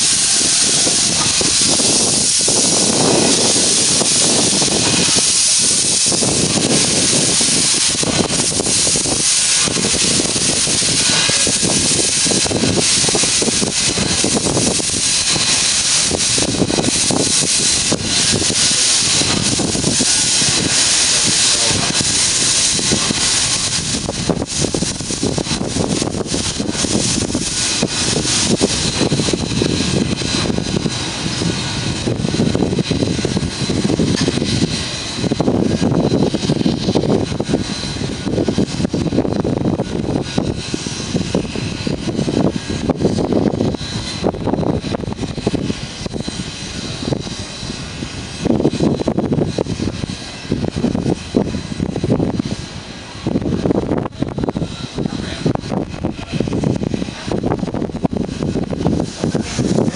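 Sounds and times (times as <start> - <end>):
hiss of steam: 0.0 - 59.9
rumble of train running gear: 0.0 - 59.9.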